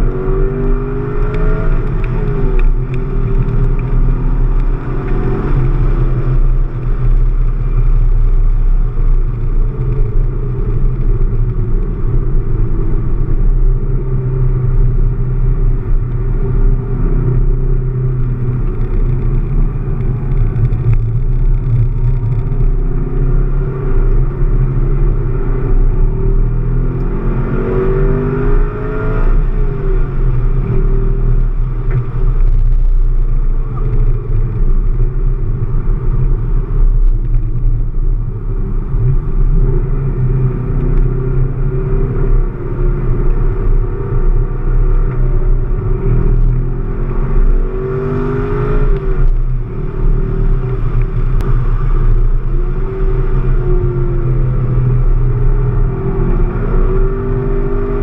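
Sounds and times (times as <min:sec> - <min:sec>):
car engine drone: 0:00.0 - 0:58.0
road and wind noise: 0:00.0 - 0:58.0.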